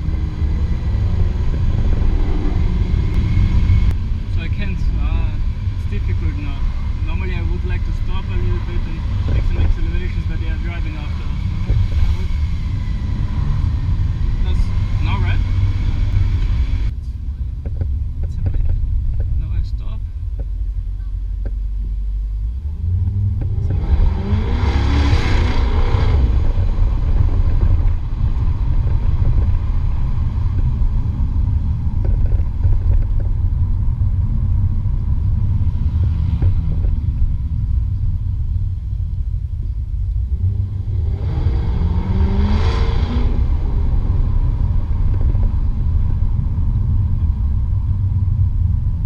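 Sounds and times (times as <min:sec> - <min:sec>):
car engine exhaust rumble: 0:00.0 - 0:49.0.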